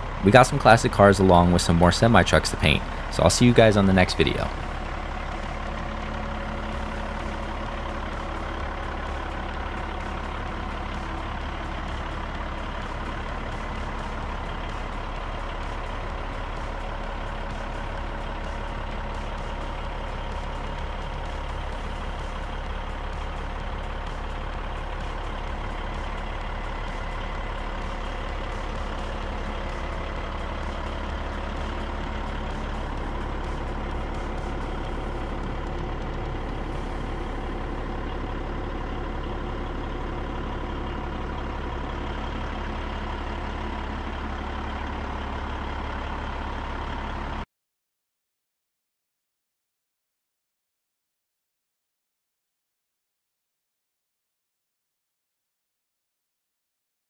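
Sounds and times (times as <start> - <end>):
diesel truck engine idling: 0.0 - 47.5.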